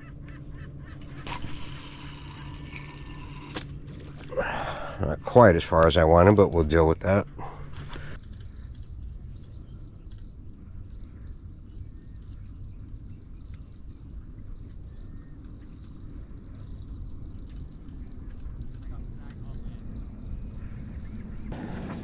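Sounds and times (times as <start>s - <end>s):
cricket trilling: 0.0s - 6.4s, 7.9s - 21.5s
low outdoor rumble: 0.0s - 22.0s.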